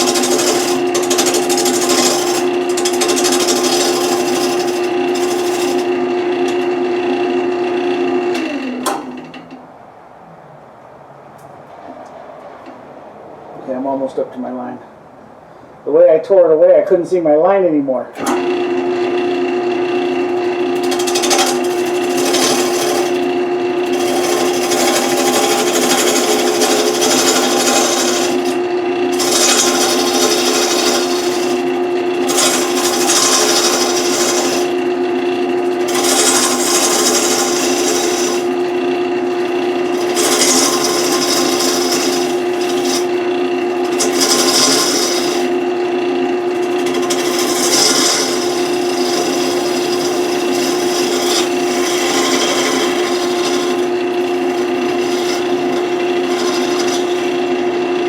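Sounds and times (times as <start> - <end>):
turning tool scraping wood: 0.0 - 7.7, 18.2 - 58.0
wood lathe motor humming: 0.0 - 9.6, 18.2 - 58.0.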